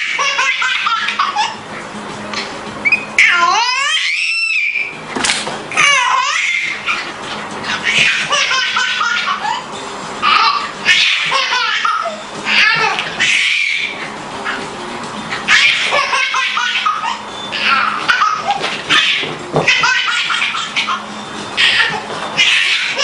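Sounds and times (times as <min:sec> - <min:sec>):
baby laughing: 0:00.0 - 0:01.6, 0:02.8 - 0:04.9, 0:05.7 - 0:14.6, 0:15.3 - 0:23.0.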